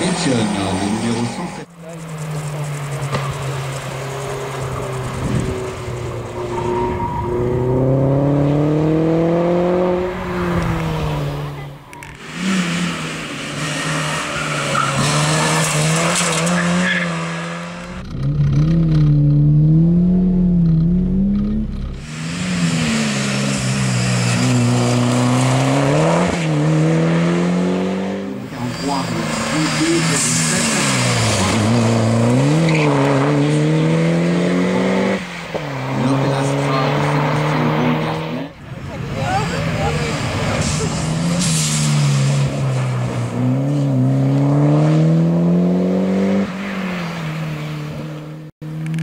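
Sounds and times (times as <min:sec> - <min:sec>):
car engines revving hard: 0:00.0 - 0:49.0.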